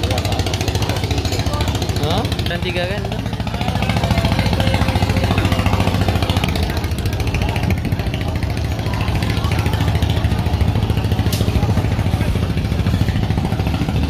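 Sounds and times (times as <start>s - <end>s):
outboard engine idling: 0.0s - 14.0s.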